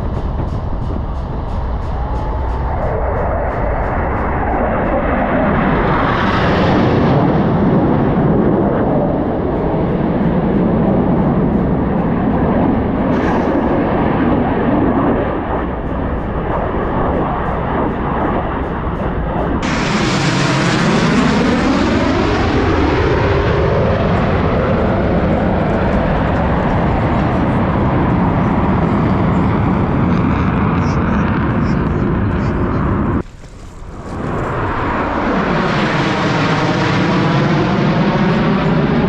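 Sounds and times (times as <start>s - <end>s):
jet passing overhead: 0.0s - 39.0s
jet roar: 0.0s - 39.0s.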